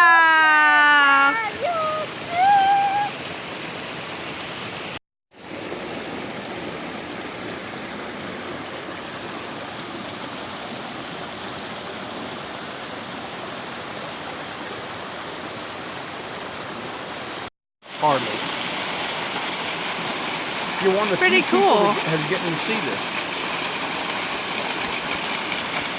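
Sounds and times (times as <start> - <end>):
small waterfall rushing: 0.6 - 25.9.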